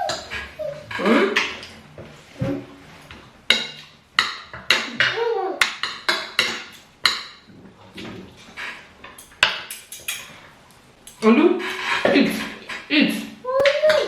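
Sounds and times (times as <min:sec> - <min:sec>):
cutlery clinking on plates: 0:00.0 - 0:02.0, 0:03.0 - 0:14.0.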